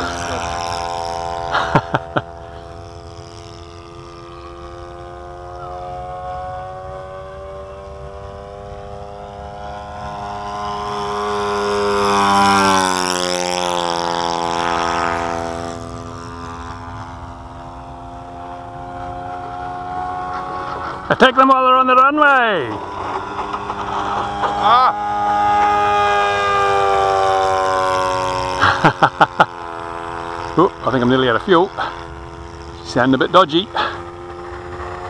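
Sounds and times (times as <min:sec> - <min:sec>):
model airplane engine droning: 0:00.0 - 0:35.0.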